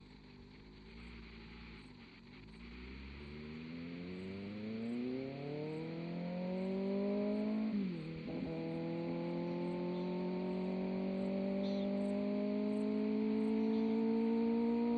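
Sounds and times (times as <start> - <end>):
motorcycle engine accelerating: 0.0 - 14.9.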